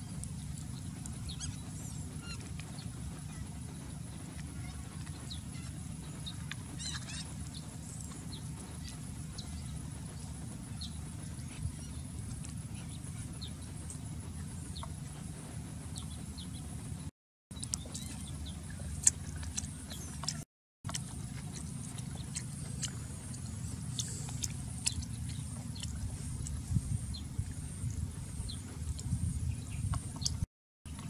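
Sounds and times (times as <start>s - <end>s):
low ambient hum: 0.0s - 31.0s.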